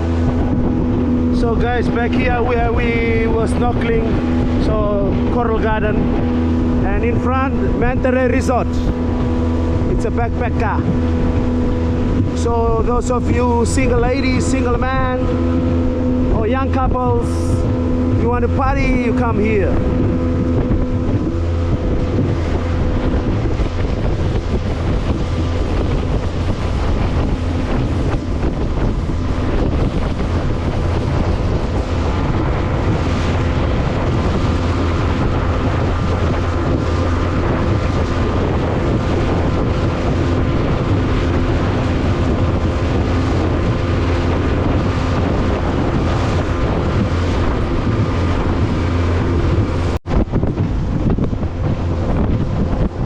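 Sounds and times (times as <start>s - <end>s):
motorboat engine running: 0.0s - 53.0s
wind on microphone: 0.0s - 53.0s.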